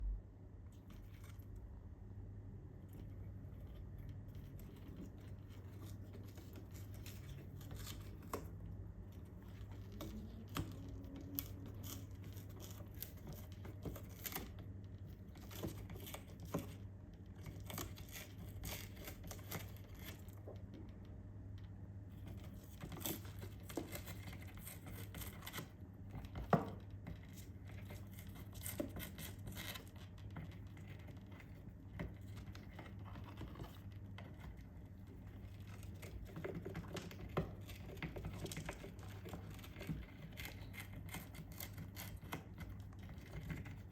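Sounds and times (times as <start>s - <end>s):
steady low hum: 0.0s - 43.9s
parrot chewing and tearing cardboard: 2.8s - 21.1s, 22.1s - 43.9s.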